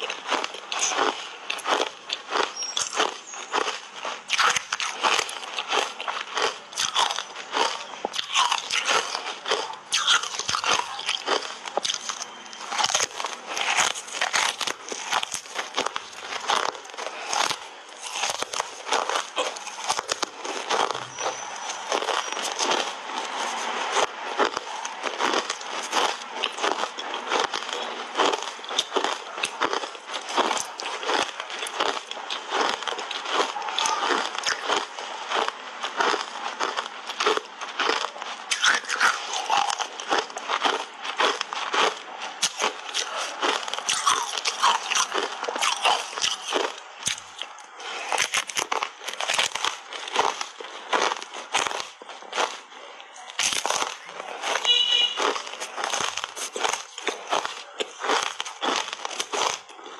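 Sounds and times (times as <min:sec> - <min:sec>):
crunching ice bars: 0:00.0 - 0:59.9.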